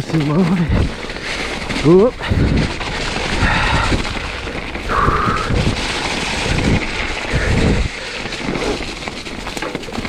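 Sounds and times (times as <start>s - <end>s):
bike rumbling over rough trail: 0.0s - 10.0s
wind buffeting microphone: 0.0s - 10.0s.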